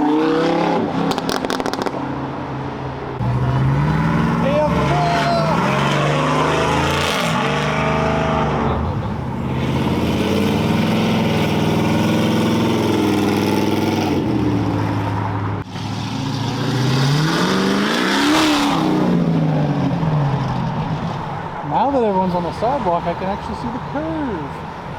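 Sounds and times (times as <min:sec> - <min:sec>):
car engines accelerating: 0:00.0 - 0:24.9.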